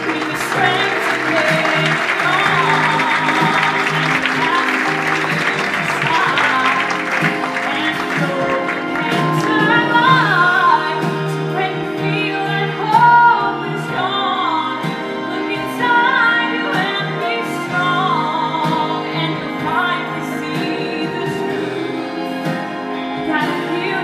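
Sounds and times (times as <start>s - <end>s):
sustained instrumental accompaniment: 0.0s - 24.0s
woman singing a slow ballad: 0.0s - 24.0s.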